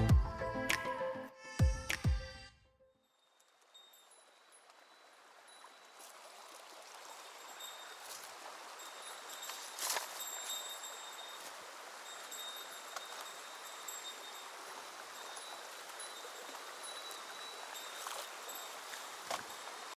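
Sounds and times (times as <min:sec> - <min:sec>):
stream water rushing: 0:03.8 - 0:20.0.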